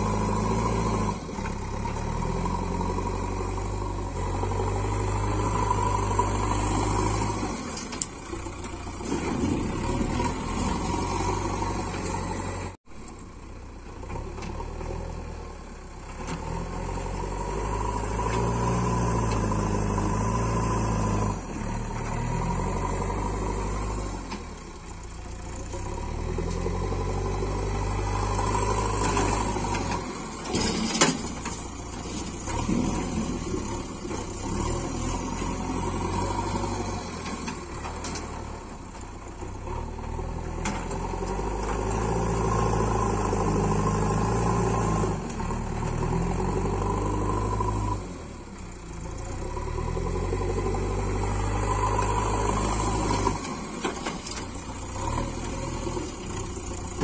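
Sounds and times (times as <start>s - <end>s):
backhoe diesel engine revving: 0.0s - 57.0s.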